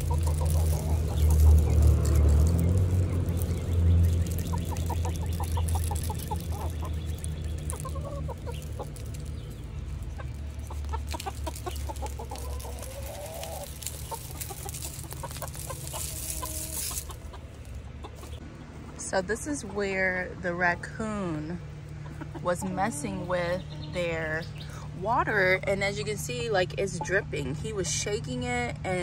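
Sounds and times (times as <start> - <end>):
chickens clucking: 0.0 - 28.3
steady low rumble: 0.0 - 29.0.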